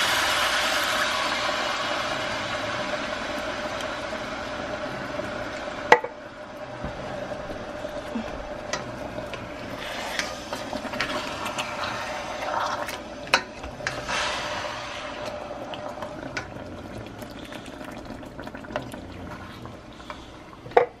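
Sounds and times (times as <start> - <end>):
coconut milk bubbling in a skillet: 0.0 - 21.0.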